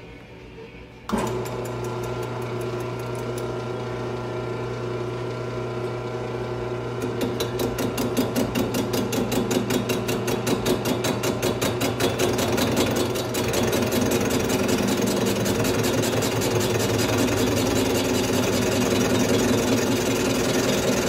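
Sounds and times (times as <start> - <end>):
metal lathe motor humming: 1.1 - 21.0.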